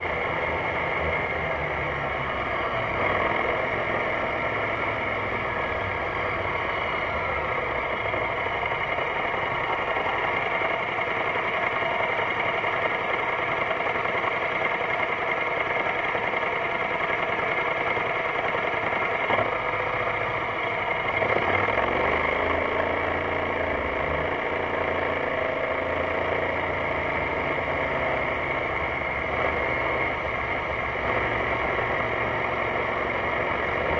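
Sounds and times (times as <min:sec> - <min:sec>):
scooter engine running: 0:00.0 - 0:33.9.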